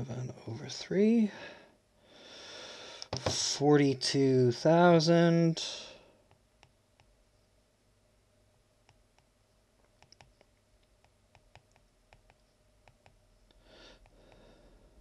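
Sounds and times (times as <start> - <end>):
soft hiss: 0.0 - 15.0.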